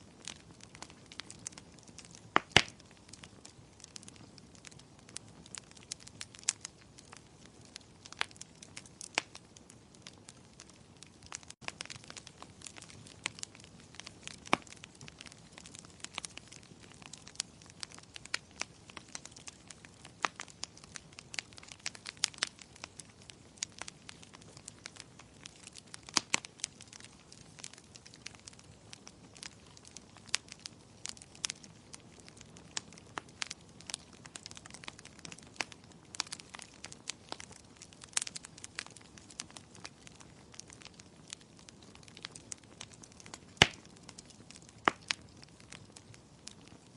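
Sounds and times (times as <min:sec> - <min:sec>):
faint steady hiss: 0:00.0 - 0:46.9
wood fire crackling: 0:00.0 - 0:46.9.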